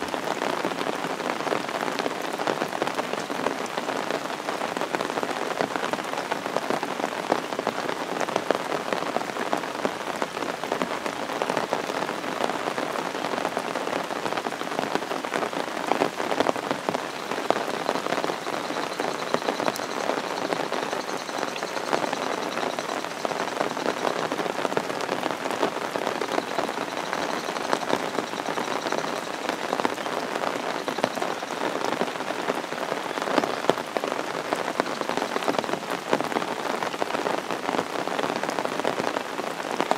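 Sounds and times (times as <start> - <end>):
torrential rain on hard surfaces: 0.0 - 39.9.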